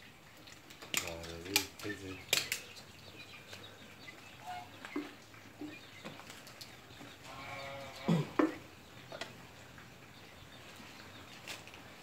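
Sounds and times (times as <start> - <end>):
farm animal calls: 1.8 - 12.0.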